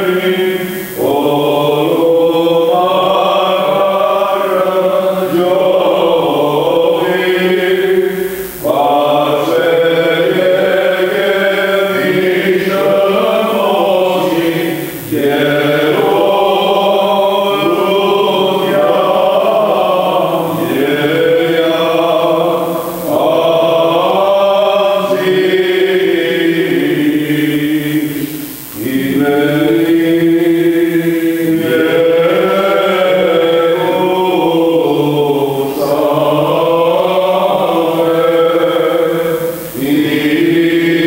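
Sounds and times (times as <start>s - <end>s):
low held drone: 0.0s - 41.0s
voices chanting slow melody: 0.0s - 41.0s.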